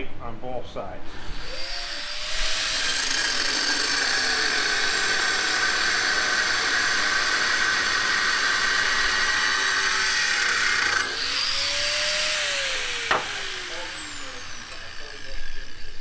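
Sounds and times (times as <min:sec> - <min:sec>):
angle grinder grinding steel: 0:01.1 - 0:16.0.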